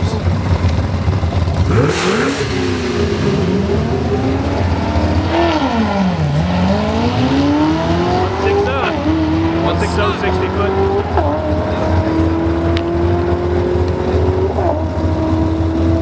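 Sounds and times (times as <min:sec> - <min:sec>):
car engine revving and accelerating: 0:01.4 - 0:16.0.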